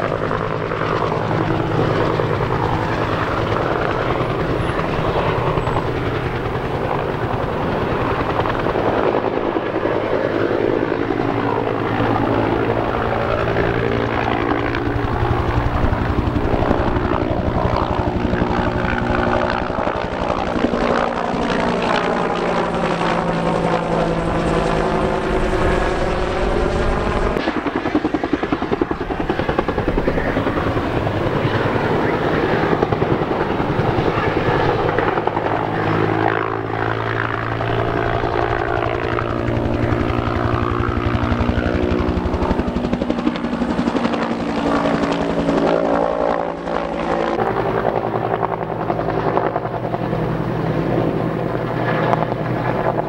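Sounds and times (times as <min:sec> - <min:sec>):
helicopter rotor beating: 0:00.0 - 0:53.0.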